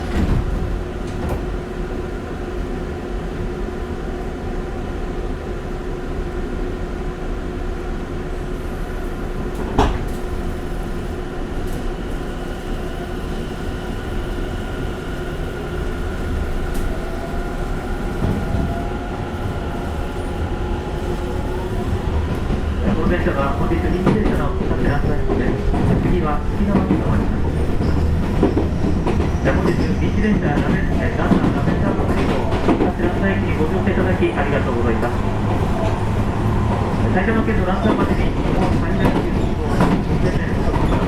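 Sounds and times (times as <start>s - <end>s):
electric train rumble and hum: 0.0s - 41.0s.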